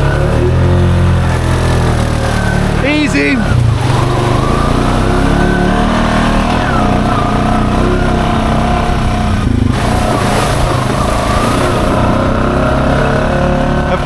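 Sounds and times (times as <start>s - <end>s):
atv engine pulling under load: 0.0s - 14.0s.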